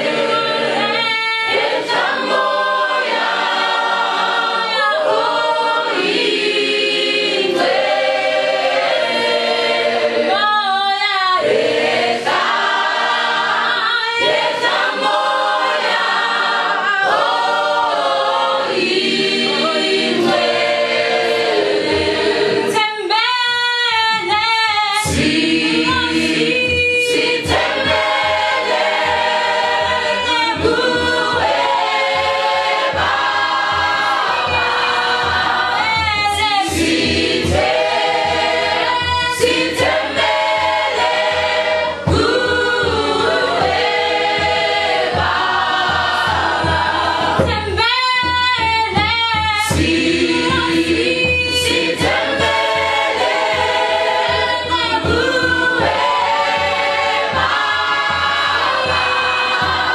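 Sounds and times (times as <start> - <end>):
mixed choir singing a cappella: 0.0 - 59.9.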